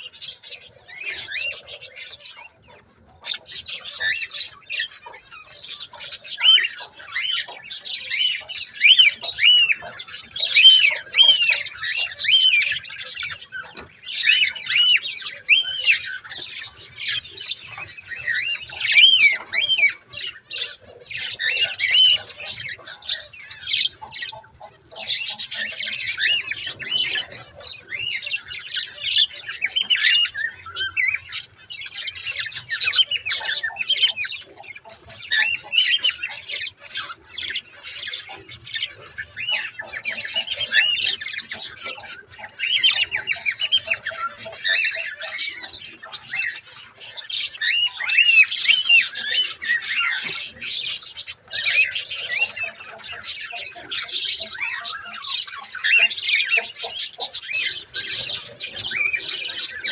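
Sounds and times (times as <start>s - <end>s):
bird raspy squawks: 0.0s - 59.9s
birds chirping: 0.0s - 59.9s.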